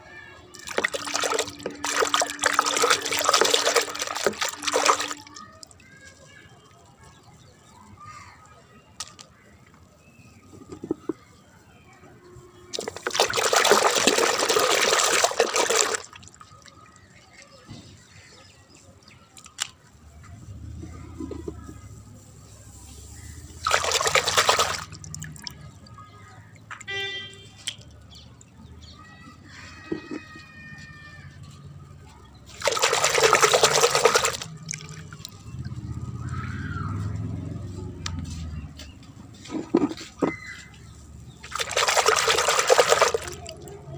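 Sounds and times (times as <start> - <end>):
water sloshing in a bucket: 0.4 - 11.4, 12.3 - 30.4, 32.1 - 43.9.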